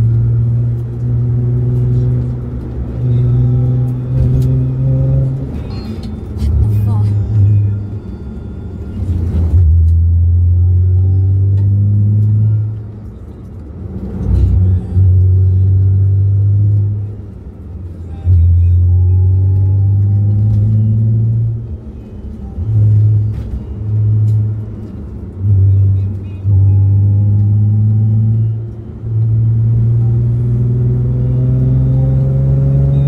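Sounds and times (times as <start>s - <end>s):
car engine accelerating: 0.0s - 8.0s, 8.9s - 33.0s.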